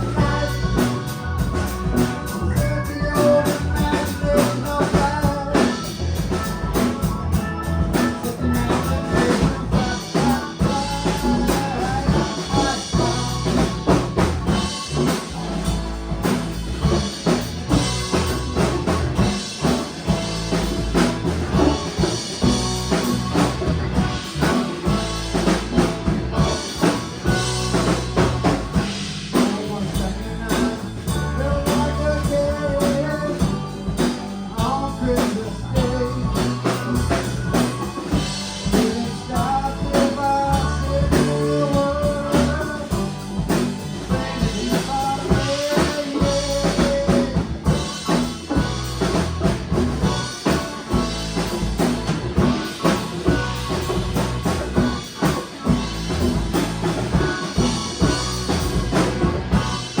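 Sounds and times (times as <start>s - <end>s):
band playing a song: 0.0s - 60.0s
drum kit beat: 0.0s - 60.0s.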